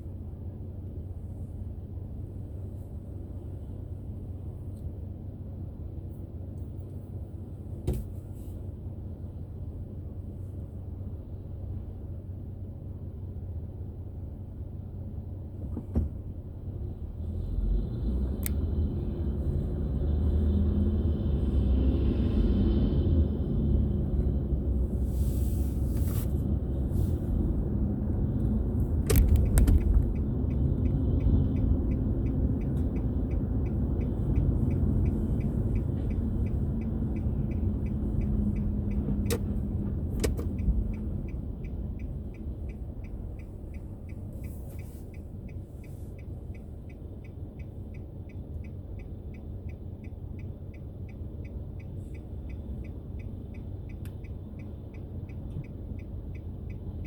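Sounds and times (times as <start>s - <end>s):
car road and engine rumble: 0.0s - 57.0s
turn signal ticking: 9.3s - 57.0s.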